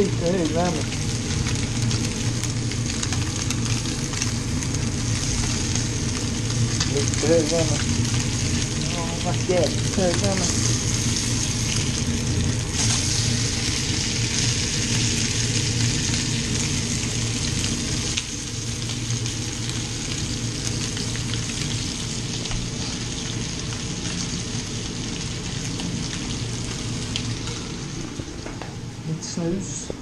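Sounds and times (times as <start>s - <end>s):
fish sizzling in a frying pan: 0.0s - 28.4s.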